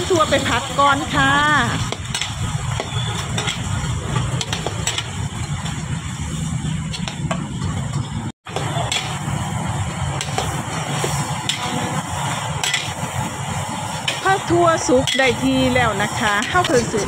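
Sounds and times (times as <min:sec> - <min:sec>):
beans sizzling in a wok: 0:00.0 - 0:06.9, 0:08.5 - 0:17.0
metal ladle scraping a wok: 0:00.3 - 0:17.0.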